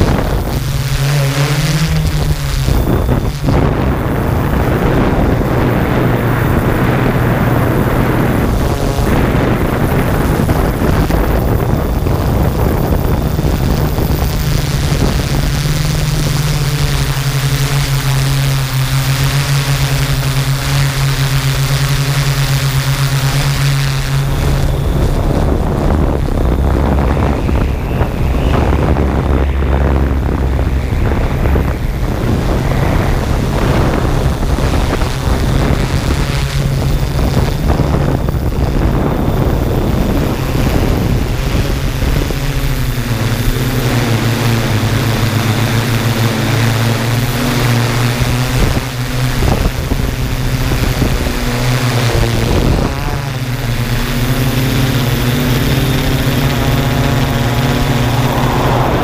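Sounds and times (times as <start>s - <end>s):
drone propellers humming: 0.0s - 59.0s
wind buffeting microphone: 0.0s - 59.0s.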